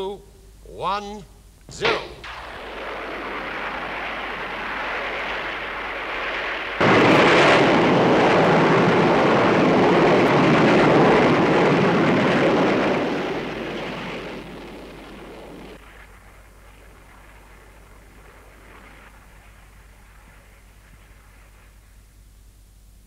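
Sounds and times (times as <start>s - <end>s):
rocket engine rushing: 1.7s - 22.0s.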